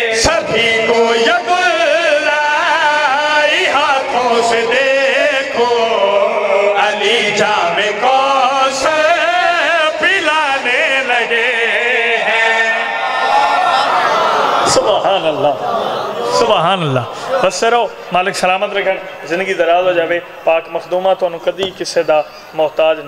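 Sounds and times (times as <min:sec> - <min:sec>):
men chanting into microphones: 0:00.0 - 0:18.8.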